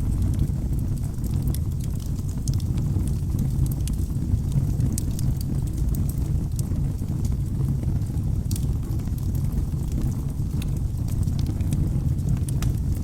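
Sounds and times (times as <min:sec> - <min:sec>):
fire crackling and popping: 0:00.0 - 0:13.0
fire rumbling: 0:00.0 - 0:13.0.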